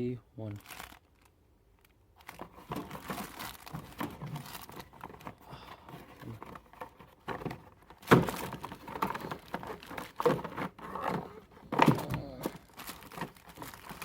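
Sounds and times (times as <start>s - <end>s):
packaging rustling: 0.5s - 14.0s.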